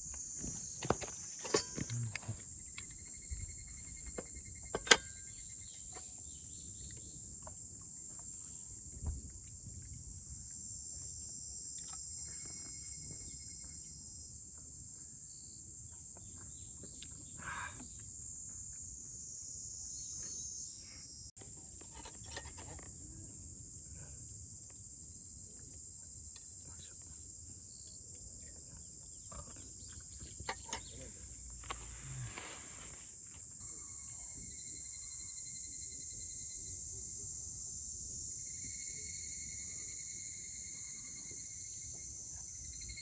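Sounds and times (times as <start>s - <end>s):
insects trilling: 0.0s - 43.0s.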